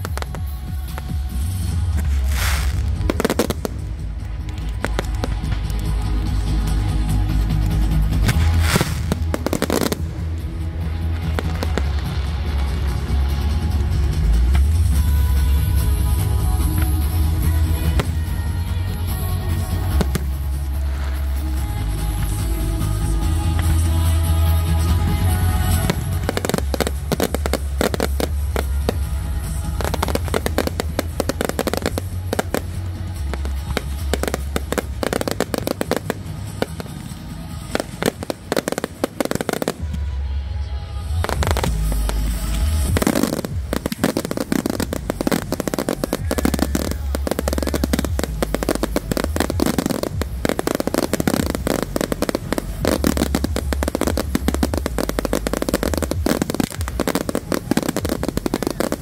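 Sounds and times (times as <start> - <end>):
fireworks bangs and crackling: 0.0 - 59.0
music with steady bass line: 0.0 - 59.0.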